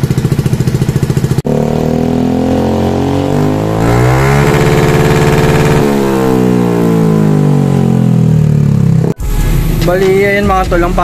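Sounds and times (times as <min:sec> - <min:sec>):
scooter engine revving: 0:00.0 - 0:09.8.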